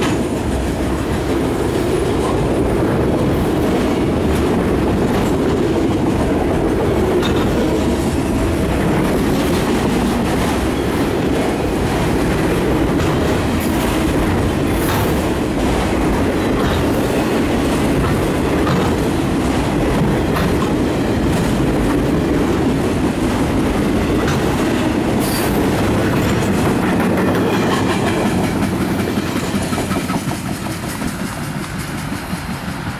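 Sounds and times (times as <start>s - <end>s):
train wheels rumbling on rail: 0.0s - 32.9s
clicking over rail joints: 3.5s - 32.9s.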